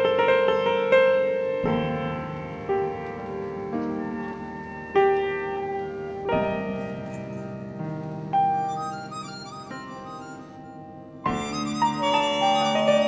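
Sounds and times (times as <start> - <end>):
piano sustained chords: 0.0 - 13.0.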